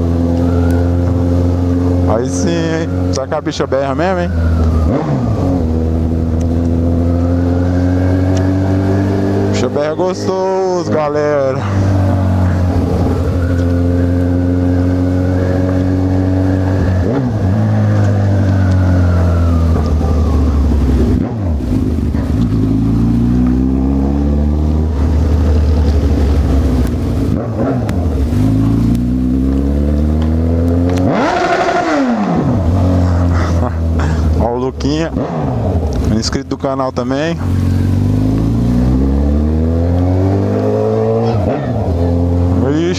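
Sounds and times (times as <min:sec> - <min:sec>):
motorcycle engine revving through gears: 0:00.0 - 0:42.9.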